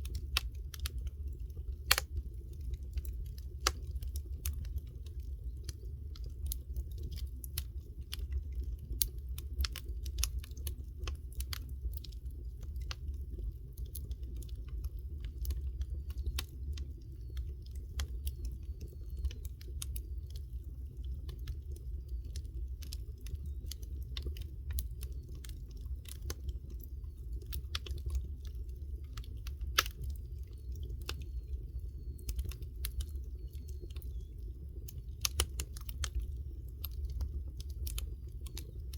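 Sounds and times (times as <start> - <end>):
low steady rumble: 0.0 - 38.9
wood fire crackling: 0.0 - 38.9.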